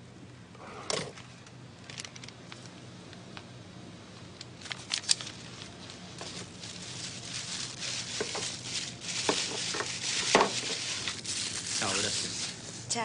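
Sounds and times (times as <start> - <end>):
steady low hum: 0.0 - 13.0
rustles and clicks of handling: 0.9 - 3.5, 4.1 - 12.9.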